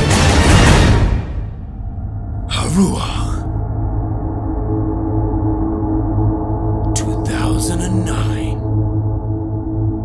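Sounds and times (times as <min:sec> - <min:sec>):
dramatic trailer music: 0:00.0 - 0:10.0
low rumble: 0:01.2 - 0:10.0.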